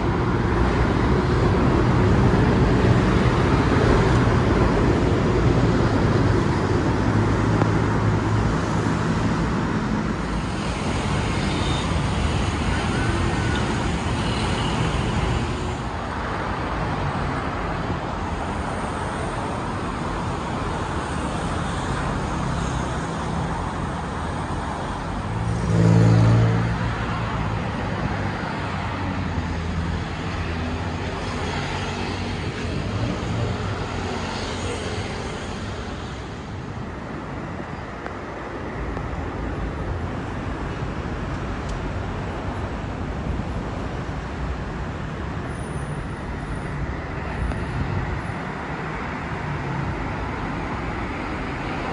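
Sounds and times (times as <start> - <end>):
road traffic: 0.0 - 51.9.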